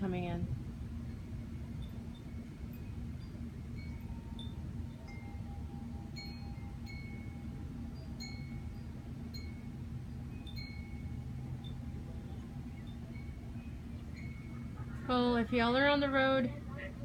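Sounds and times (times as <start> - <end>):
steady low hum: 0.0 - 17.0
wind chimes tinkling: 0.8 - 17.0.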